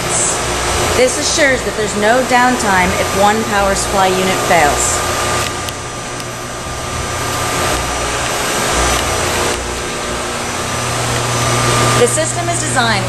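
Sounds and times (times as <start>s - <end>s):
lab equipment whirring hum: 0.0s - 13.0s.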